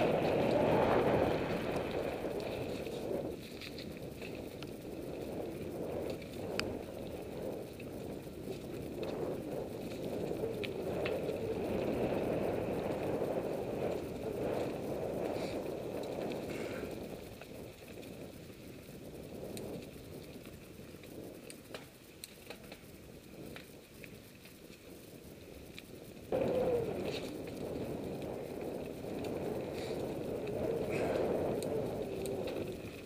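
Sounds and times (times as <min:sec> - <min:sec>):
bike tyres rumbling on dirt: 0:00.0 - 0:33.0.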